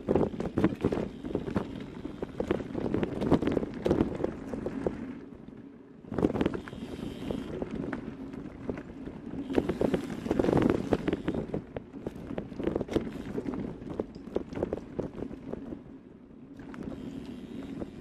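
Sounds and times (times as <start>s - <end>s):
knocks and crunches on rough path: 0.0s - 18.0s
wind buffeting microphone: 0.0s - 18.0s.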